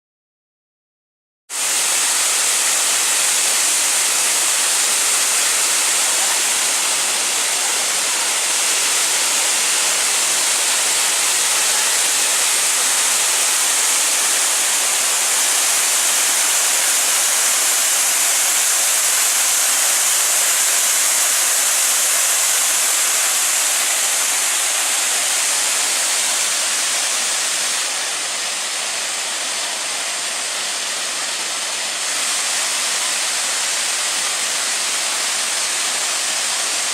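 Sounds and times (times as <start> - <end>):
waterfall rushing: 1.5 - 36.9.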